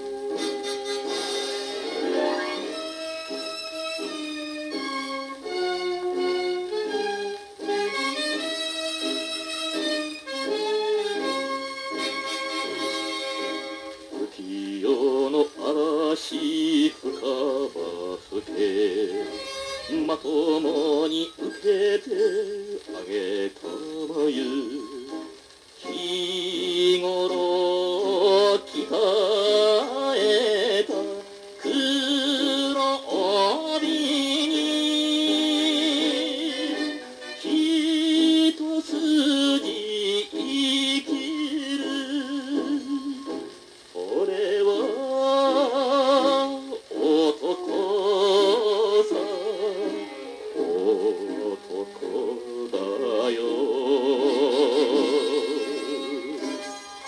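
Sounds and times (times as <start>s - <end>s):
instrumental backing music: 0.0s - 57.0s
man singing with vibrato: 7.0s - 57.0s.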